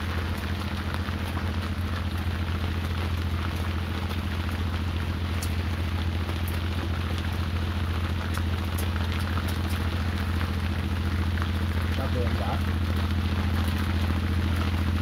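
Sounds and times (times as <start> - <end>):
boat engine humming: 0.0 - 15.0
rain drops ticking: 0.0 - 15.0
rain hissing: 0.0 - 15.0.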